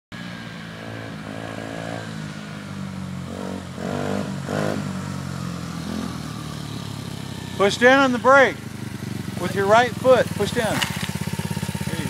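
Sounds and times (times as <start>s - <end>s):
dirt bike engine revving: 0.8s - 2.6s, 3.2s - 12.0s.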